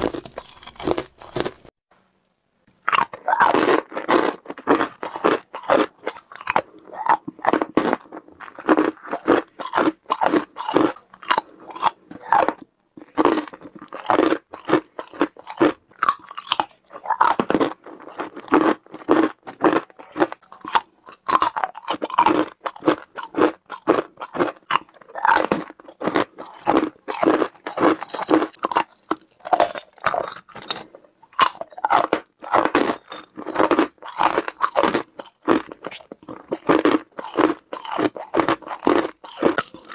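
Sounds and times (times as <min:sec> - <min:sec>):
ice chunks crunching while chewed: 0:00.0 - 0:01.7, 0:02.8 - 0:39.9.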